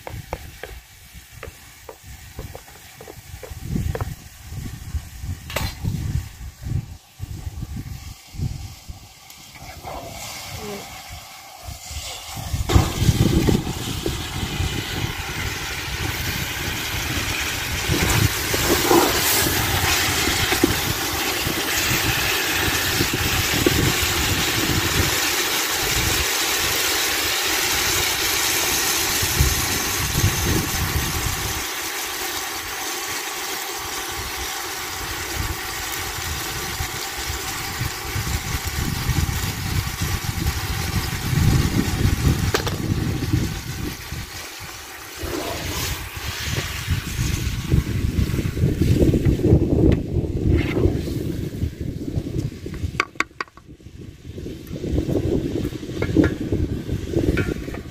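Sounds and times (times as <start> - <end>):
vegetables sizzling in oil: 0.0 - 53.0, 53.7 - 57.9.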